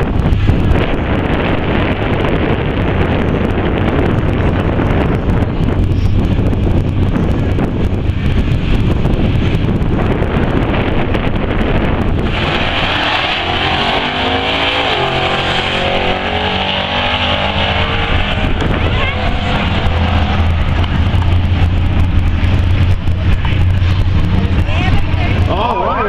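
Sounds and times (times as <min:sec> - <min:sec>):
truck engine running: 0:00.0 - 0:26.0
wind noise on microphone: 0:00.0 - 0:26.0.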